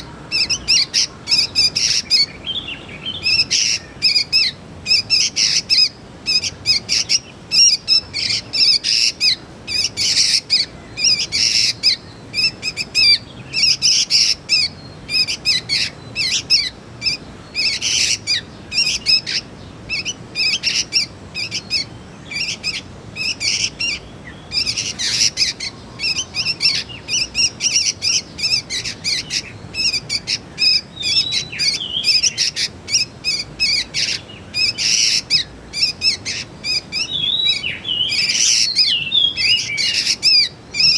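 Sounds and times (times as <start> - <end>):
young birds chirping and squawking: 0.0 - 40.9.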